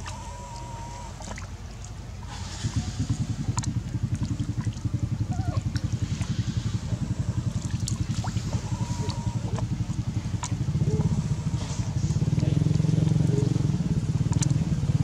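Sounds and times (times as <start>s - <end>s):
small engine running: 0.0s - 1.5s, 2.2s - 15.0s
water splashing: 0.0s - 15.0s.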